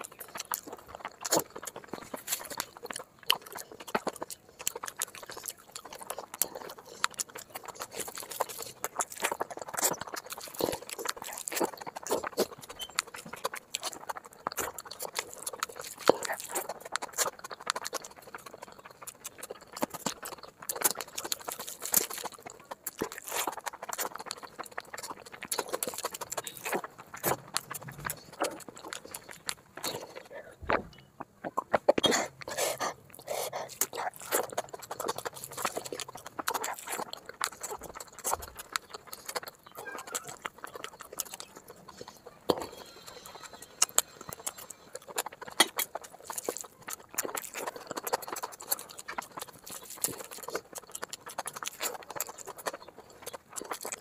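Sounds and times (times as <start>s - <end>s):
wet chewing and lip smacks: 0.0s - 54.0s.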